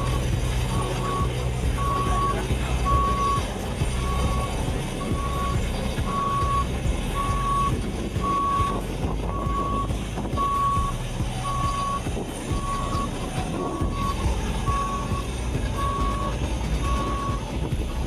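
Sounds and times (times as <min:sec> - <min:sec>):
reversing alarm beeping: 0:00.0 - 0:17.5
engine rumble: 0:00.0 - 0:18.0.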